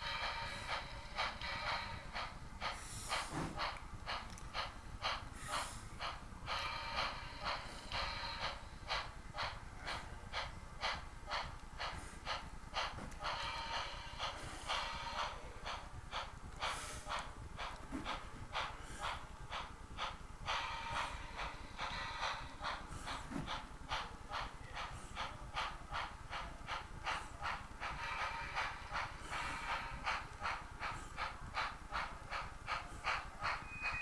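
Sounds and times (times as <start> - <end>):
model train steam chuffs: 0.0 - 34.0.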